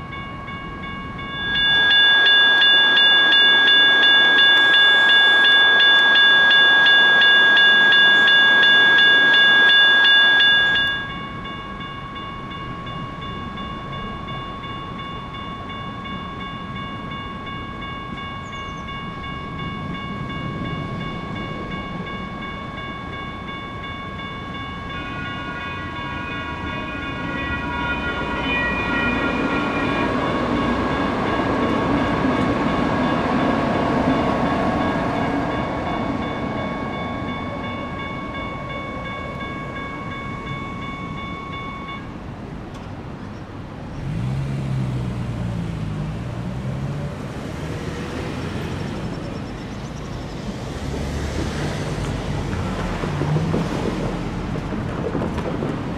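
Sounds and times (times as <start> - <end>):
railroad crossing bells ringing: 0.0 - 55.9
train wheel rumble: 0.0 - 55.9.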